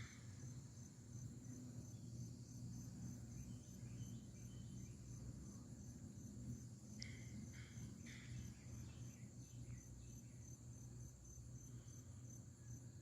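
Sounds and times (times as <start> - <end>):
insects chirping: 0.0 - 13.0
low steady hum: 0.0 - 13.0.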